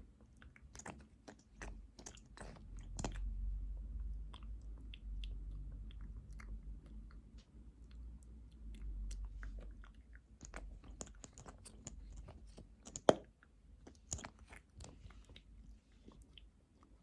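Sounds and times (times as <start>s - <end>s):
lip smacks and tongue clicks: 0.2s - 17.0s.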